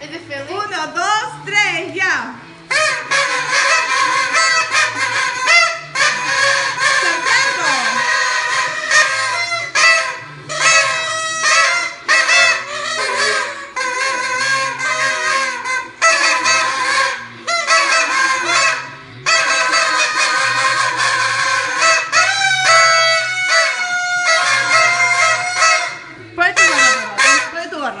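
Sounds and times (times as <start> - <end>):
party horns honking: 0.6 - 28.0.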